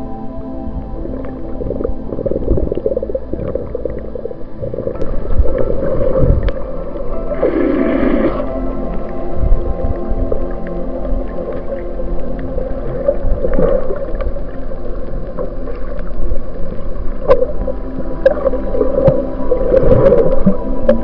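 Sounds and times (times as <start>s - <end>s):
ambient drone music: 0.0s - 21.0s
underwater ocean sounds: 0.0s - 21.0s.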